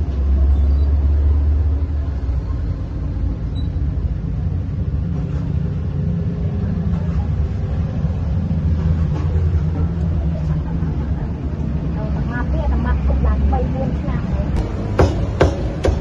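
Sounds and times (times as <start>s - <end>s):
street traffic engine rumble: 0.0s - 16.0s.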